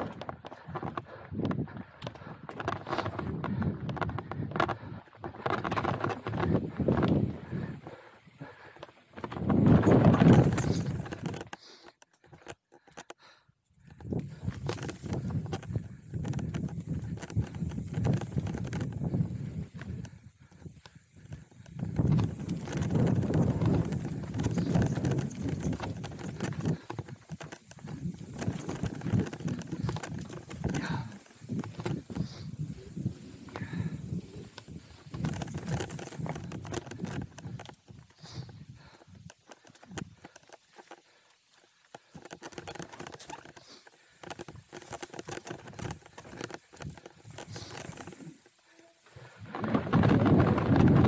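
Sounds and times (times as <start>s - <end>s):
bike tyres rumbling over stones: 0.0s - 11.6s, 13.9s - 51.0s
bike rattling: 0.0s - 51.0s.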